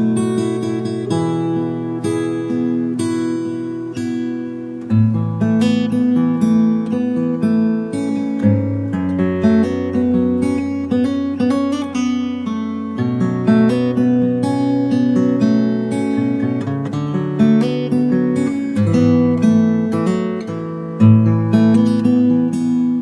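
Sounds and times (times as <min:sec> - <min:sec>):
acoustic guitar plucking: 0:00.0 - 0:23.0.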